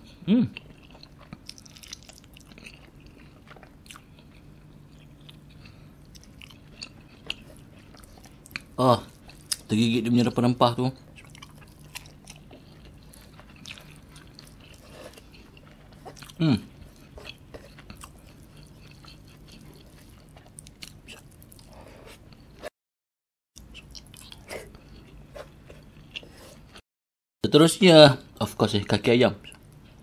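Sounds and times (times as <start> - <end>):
person chewing food: 0.6 - 9.7, 11.0 - 22.7, 23.6 - 26.8.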